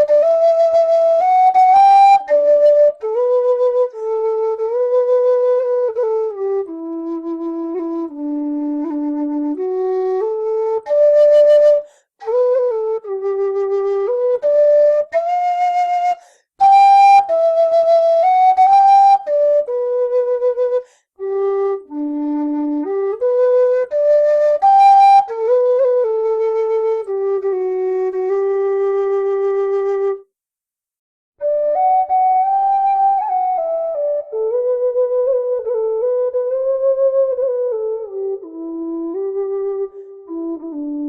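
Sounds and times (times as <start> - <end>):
low whistle slow melody: 0.0 - 30.3, 31.4 - 41.0.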